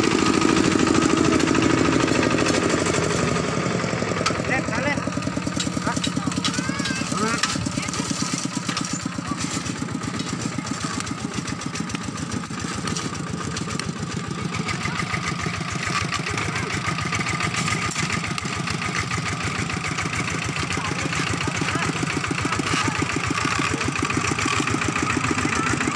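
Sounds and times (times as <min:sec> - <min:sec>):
diesel engine chugging: 0:00.0 - 0:25.9.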